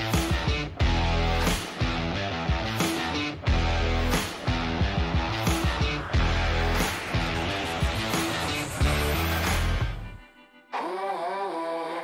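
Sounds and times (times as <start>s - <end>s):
rock band playing: 0.0s - 10.1s.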